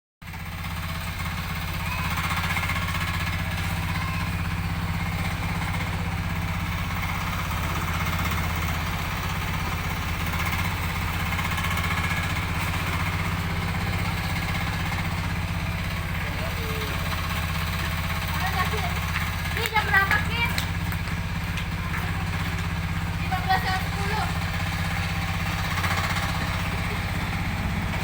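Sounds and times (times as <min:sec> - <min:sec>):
excavator engine running: 0:00.2 - 0:28.0.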